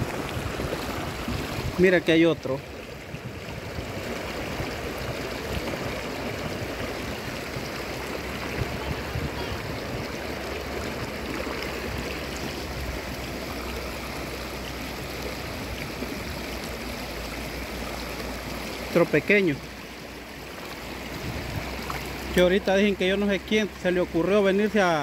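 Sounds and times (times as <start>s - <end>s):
river babbling over stones: 0.0s - 25.0s.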